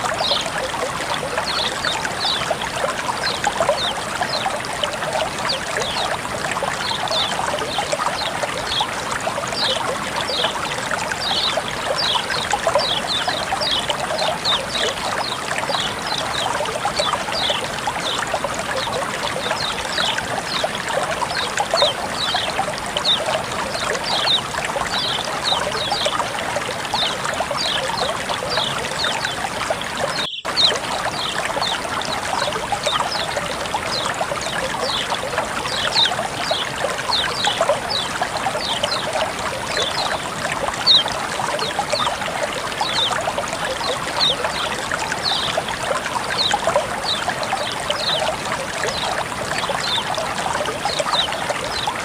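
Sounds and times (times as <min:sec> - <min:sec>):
water flowing and trickling: 0:00.0 - 0:52.0.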